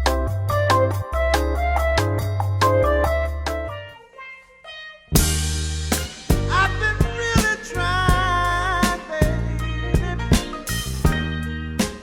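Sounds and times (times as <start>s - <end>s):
soul music with guitar and drums: 0.0s - 4.0s, 5.1s - 12.0s.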